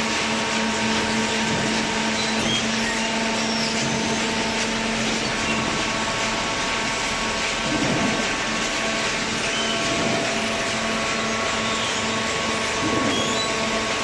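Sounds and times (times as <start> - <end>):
baler machine running: 0.0 - 14.0
pump and motor hum: 0.0 - 14.0.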